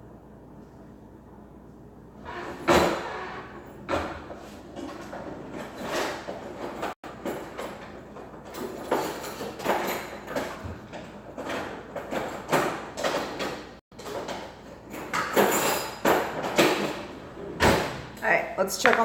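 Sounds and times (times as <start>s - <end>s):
kitchen knocks and scrapes: 2.3s - 18.2s, 18.8s - 19.0s.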